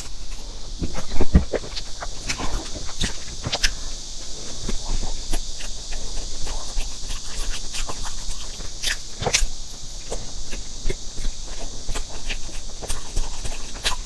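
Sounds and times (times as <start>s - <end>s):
person chewing: 0.0s - 14.0s
steady hiss: 0.0s - 14.0s.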